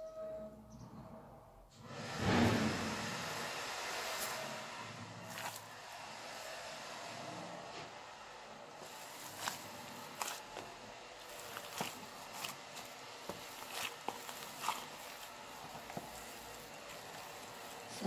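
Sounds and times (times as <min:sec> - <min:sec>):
gloved hands kneading mixture: 0:02.1 - 0:18.0.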